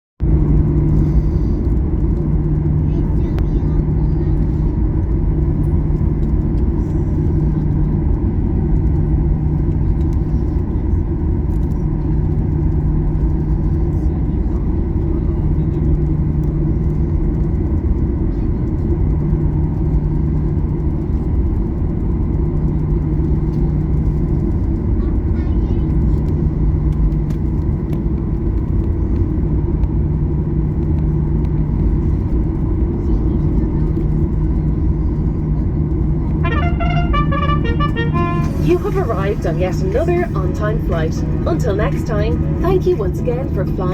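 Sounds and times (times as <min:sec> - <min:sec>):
airplane cabin rumble: 0:00.2 - 0:43.9
low steady hum: 0:00.2 - 0:43.9.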